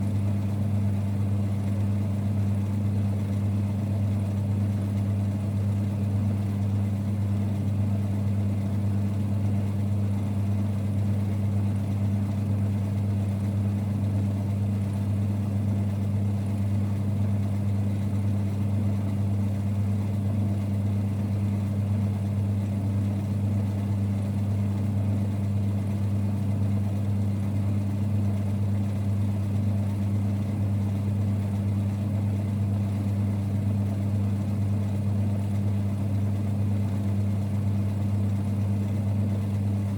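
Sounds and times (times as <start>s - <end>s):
lathe running with low hum: 0.0s - 39.9s.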